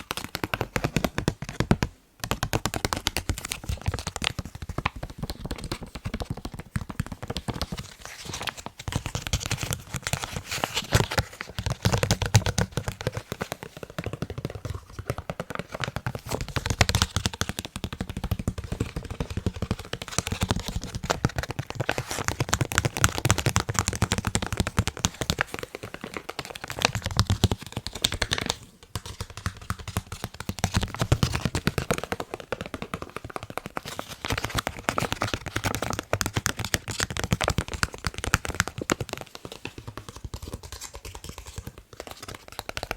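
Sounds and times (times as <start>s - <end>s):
fingertips tapping on face mask: 0.0s - 42.9s.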